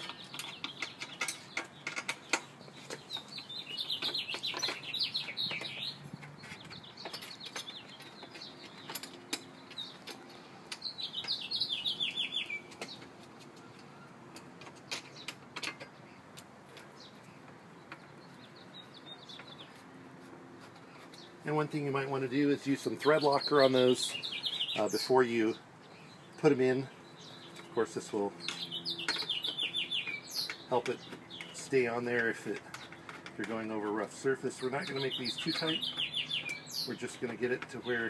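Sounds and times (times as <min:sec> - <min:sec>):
bird chirping: 0:00.0 - 0:38.0.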